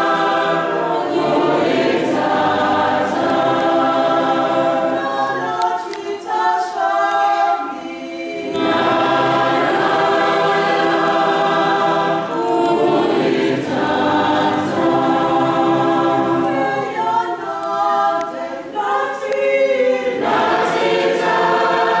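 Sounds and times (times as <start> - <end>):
choir singing a hymn: 0.0 - 22.0.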